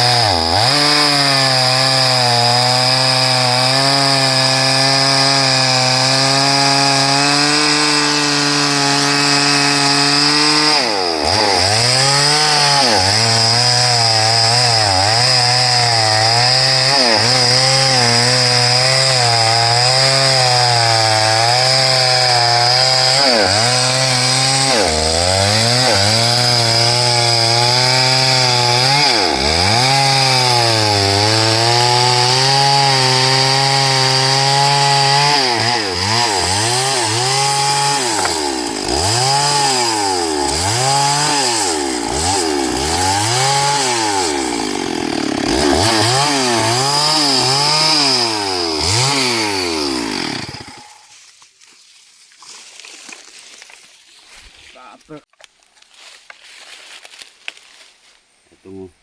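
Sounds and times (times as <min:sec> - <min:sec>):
chainsaw cutting through wood: 0:00.0 - 0:51.4.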